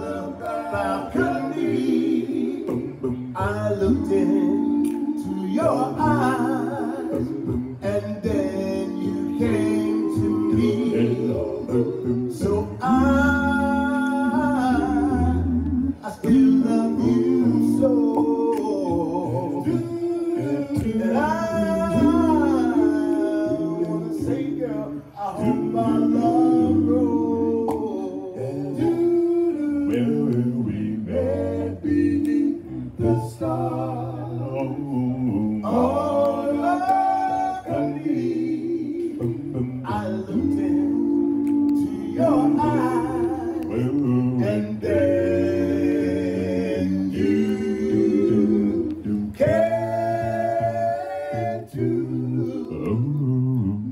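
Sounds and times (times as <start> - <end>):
male vocal group singing harmony: 0.0 - 53.9.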